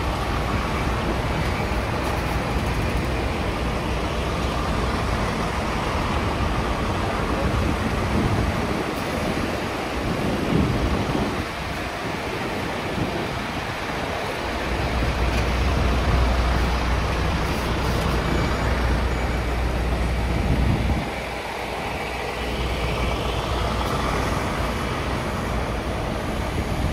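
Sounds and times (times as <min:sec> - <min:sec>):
truck diesel engine hum: 0:00.0 - 0:26.9
wind rushing over microphone: 0:00.0 - 0:26.9.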